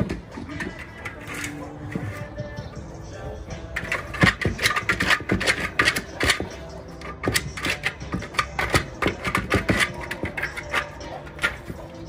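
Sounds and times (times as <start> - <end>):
dog claws scraping plywood and dirt: 0.0 - 2.6, 3.7 - 12.0.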